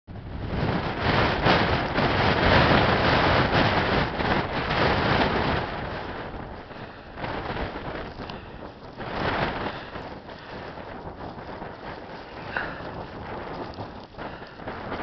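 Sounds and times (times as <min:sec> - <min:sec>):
blizzard wind buffeting microphone: 0:00.1 - 0:15.0.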